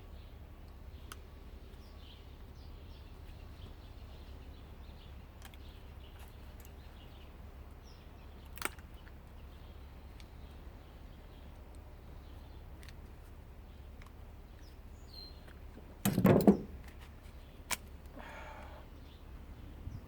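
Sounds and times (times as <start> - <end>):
birds chirping: 0.1 - 20.0.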